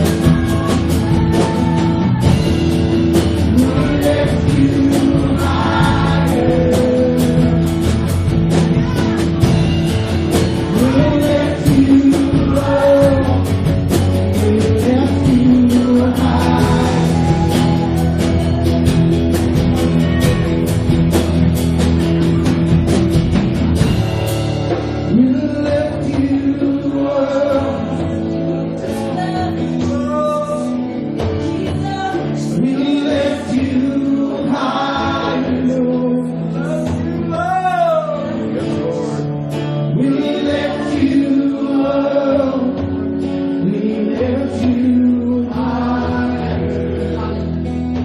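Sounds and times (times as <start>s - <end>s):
gospel singers: 0.0s - 9.7s, 10.4s - 18.9s, 25.0s - 47.8s
band playing sustained chords: 0.0s - 48.0s.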